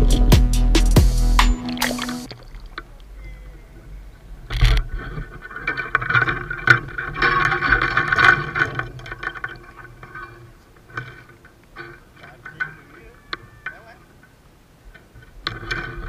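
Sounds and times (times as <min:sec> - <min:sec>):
scraping and rustling: 0:02.2 - 0:16.0.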